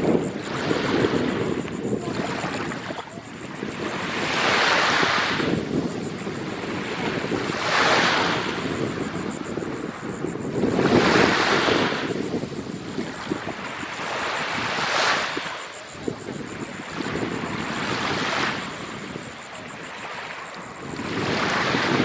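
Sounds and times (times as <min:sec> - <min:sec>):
small waves washing onto shore: 0:00.0 - 0:22.0
wind buffeting microphone: 0:00.0 - 0:22.0.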